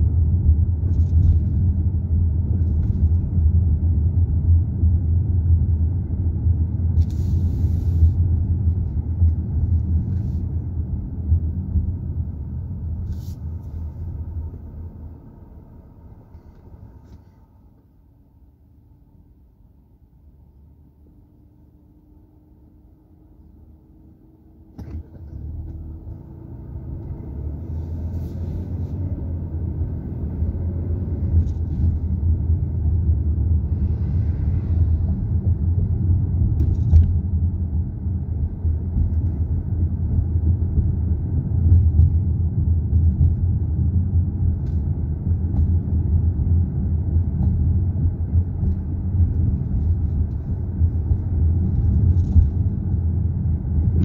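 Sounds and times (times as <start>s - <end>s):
car driving rumble from inside: 0.0s - 54.0s.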